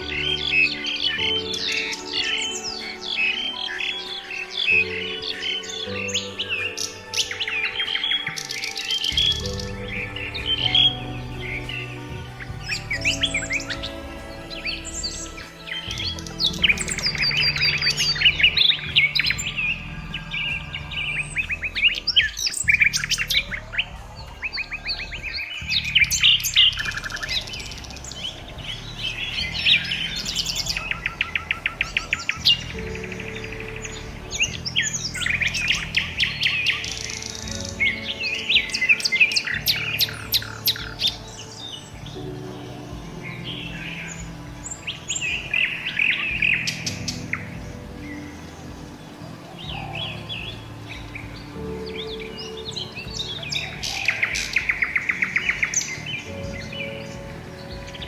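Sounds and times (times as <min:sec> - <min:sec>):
small birds chirping: 0:00.0 - 0:58.0
soft background music: 0:00.0 - 0:58.0.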